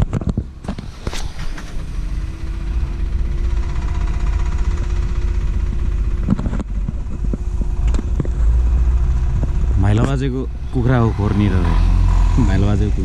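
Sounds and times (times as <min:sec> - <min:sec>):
vehicle engine running with whine: 0:00.0 - 0:13.0.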